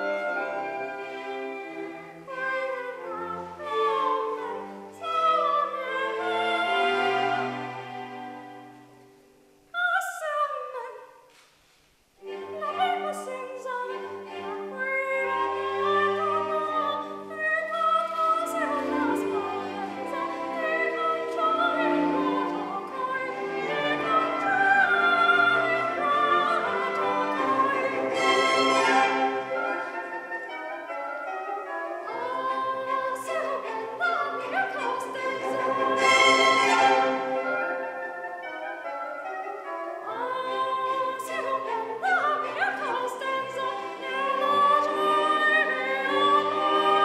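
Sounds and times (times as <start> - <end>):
operatic soprano singing: 0.0 - 8.8, 9.7 - 11.2, 12.2 - 47.0.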